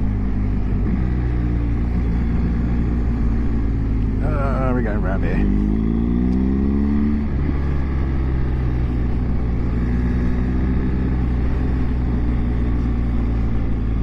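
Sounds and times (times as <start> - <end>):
motorcycle engine pulling away: 0.7 - 14.0.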